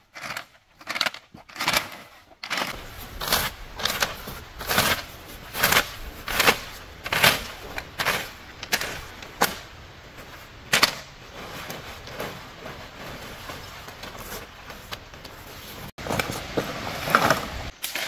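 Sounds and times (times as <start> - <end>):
wood cracking: 0.1 - 18.0
raking dry leaves: 1.0 - 18.0.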